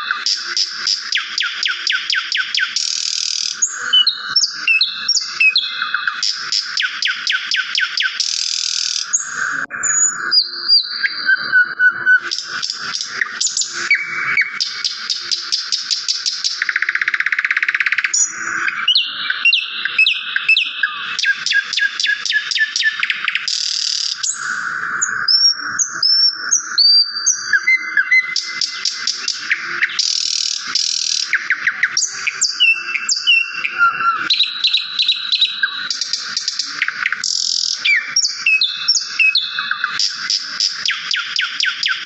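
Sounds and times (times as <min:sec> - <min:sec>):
small songbirds chirping: 0:00.0 - 0:42.0.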